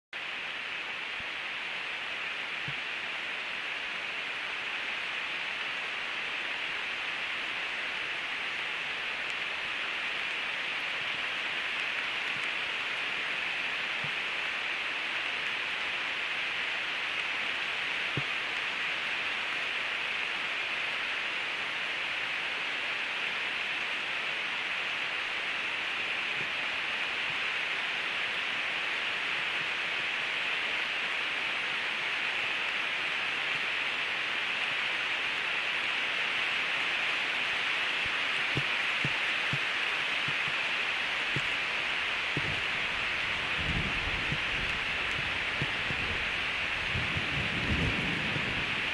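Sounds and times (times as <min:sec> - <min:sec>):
heavy rain on leaves: 0:00.2 - 0:48.9.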